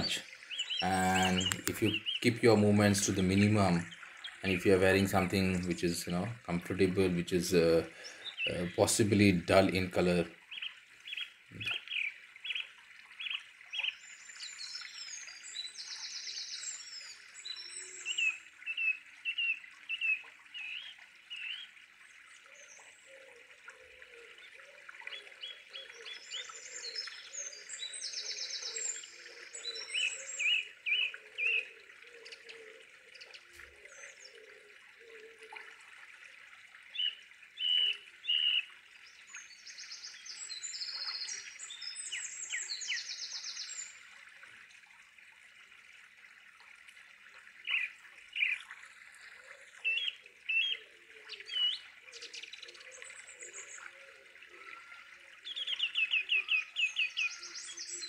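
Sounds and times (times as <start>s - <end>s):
birds singing and chirping: 0.0s - 35.7s, 36.9s - 44.0s, 47.6s - 48.8s, 49.4s - 58.0s.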